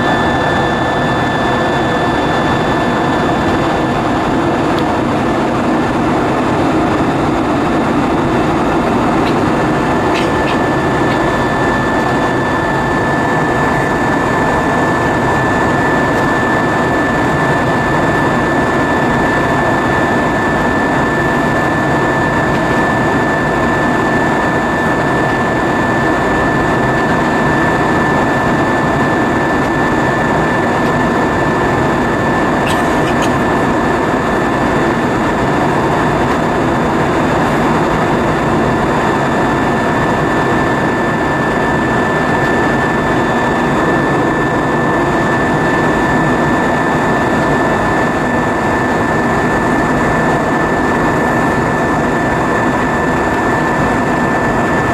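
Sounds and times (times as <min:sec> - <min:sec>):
roar of airflow and engines: 0:00.0 - 0:54.9
thin steady whine: 0:00.0 - 0:54.9.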